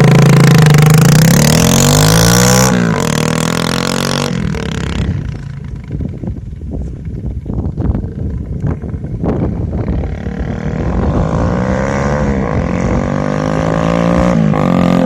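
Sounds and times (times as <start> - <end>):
motorbike engine revving and idling: 0.0 - 15.0.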